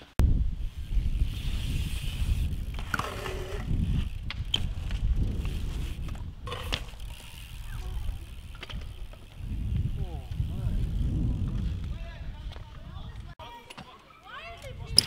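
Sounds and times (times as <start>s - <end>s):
bike tyres rolling on concrete: 0.0s - 15.0s
bike knocks and clacks: 1.7s - 13.9s.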